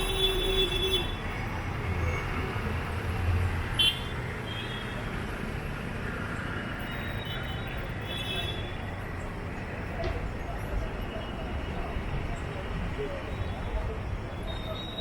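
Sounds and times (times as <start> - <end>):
rumble of passing vehicles: 0.0 - 15.0.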